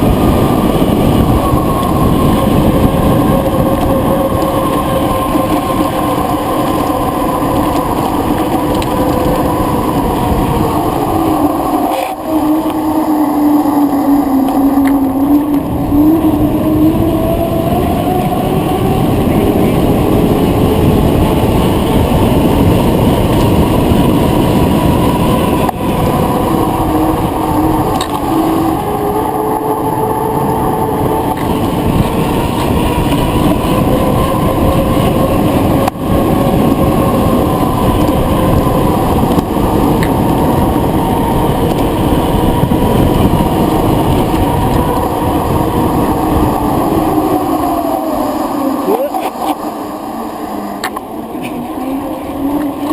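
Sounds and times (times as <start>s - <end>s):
bicycle road rumble: 0.0s - 52.9s
faint whine: 0.0s - 52.9s
wind rushing over microphone: 0.0s - 52.9s.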